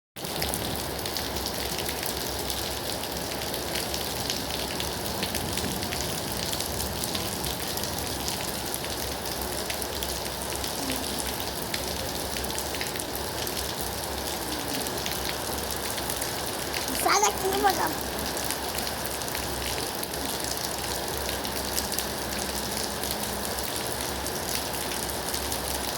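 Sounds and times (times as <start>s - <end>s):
rain falling on a surface: 0.2s - 25.9s.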